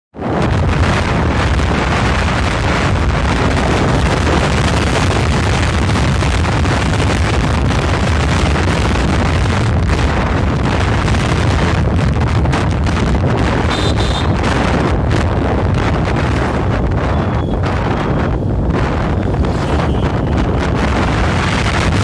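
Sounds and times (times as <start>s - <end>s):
wind buffeting microphone: 0.2s - 22.0s.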